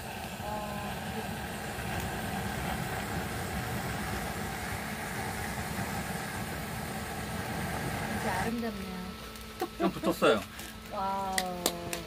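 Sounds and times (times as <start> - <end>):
gas torch flame rushing: 0.0 - 12.0.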